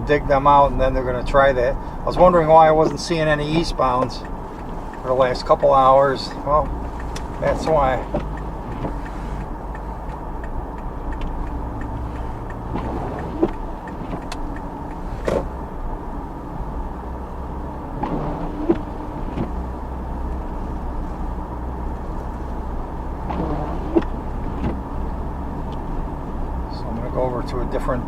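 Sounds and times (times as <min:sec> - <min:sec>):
car cabin rumble: 0:00.0 - 0:28.0.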